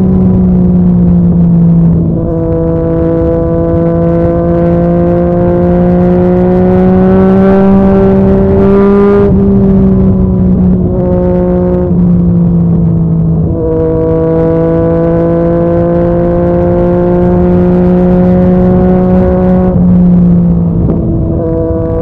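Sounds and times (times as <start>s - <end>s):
motorcycle engine running under load: 0.0s - 22.0s.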